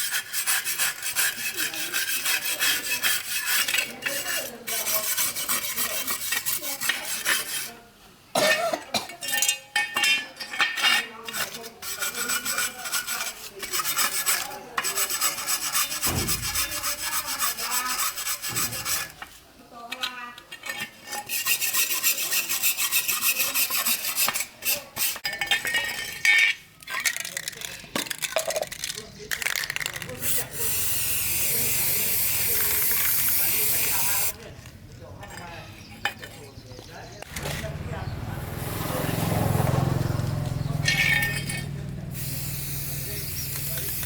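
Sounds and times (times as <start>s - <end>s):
tool scraping hard surface: 0.0s - 7.8s, 10.0s - 19.4s, 20.5s - 27.1s, 29.7s - 34.5s, 37.2s - 44.0s.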